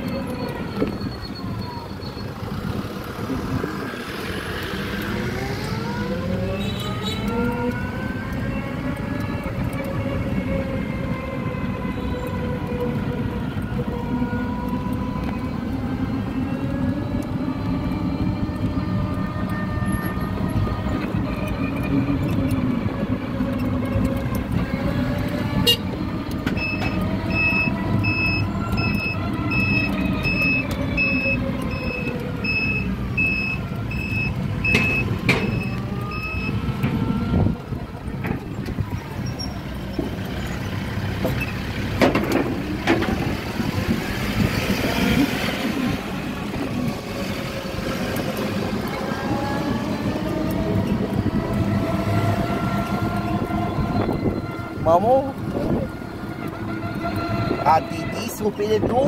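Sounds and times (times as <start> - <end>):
road rumble: 0.0 - 59.0.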